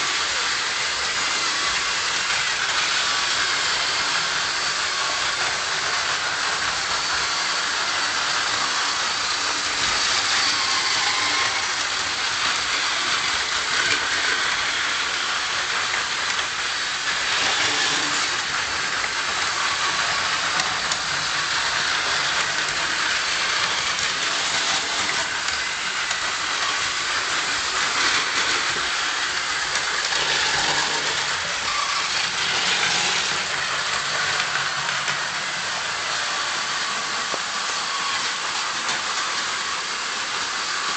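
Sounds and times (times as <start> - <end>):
toy train motors whirring: 0.0 - 40.9
wheels rattling over plastic track: 0.0 - 40.9.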